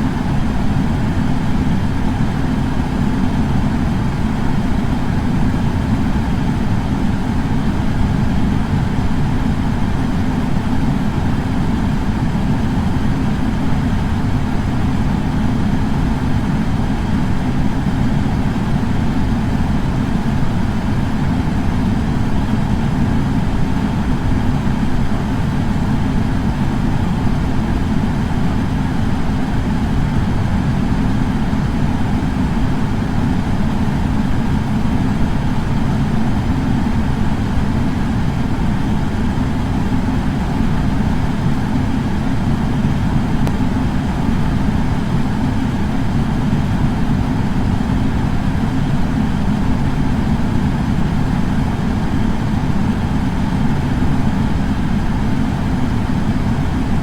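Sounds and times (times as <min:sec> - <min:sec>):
air purifier fan humming: 0:00.0 - 0:57.0.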